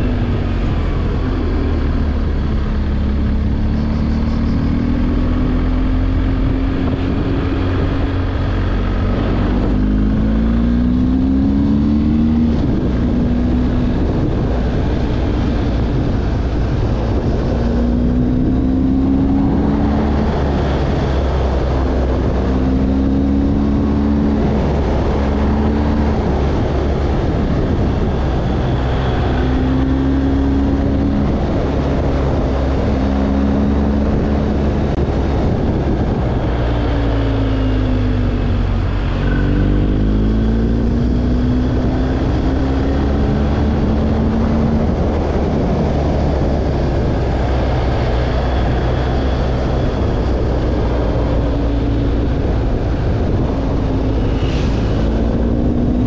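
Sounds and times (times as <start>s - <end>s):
road noise: 0.0s - 56.0s
vehicle engine revving: 0.0s - 56.0s
wind noise: 0.0s - 56.0s.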